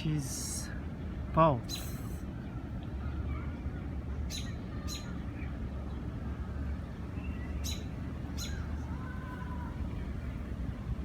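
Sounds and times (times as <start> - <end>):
low background rumble: 0.0 - 11.0
small birds chirping: 0.6 - 6.2, 7.0 - 10.5.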